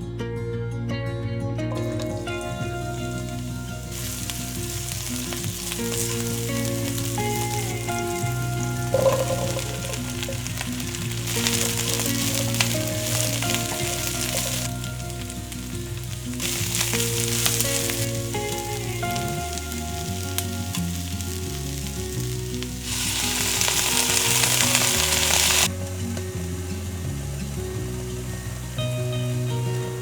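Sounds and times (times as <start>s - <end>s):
stir-fry sizzling in hot oil: 1.8s - 30.0s.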